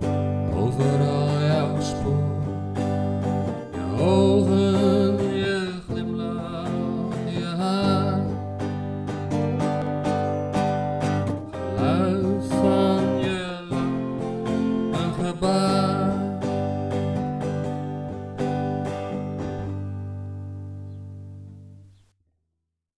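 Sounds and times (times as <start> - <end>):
song with strummed acoustic guitar: 0.0 - 22.0.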